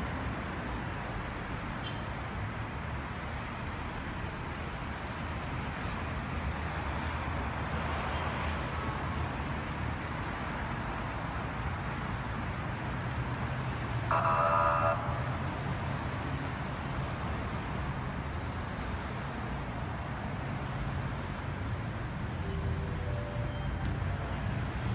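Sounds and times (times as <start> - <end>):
road traffic hum and hiss: 0.0 - 24.9.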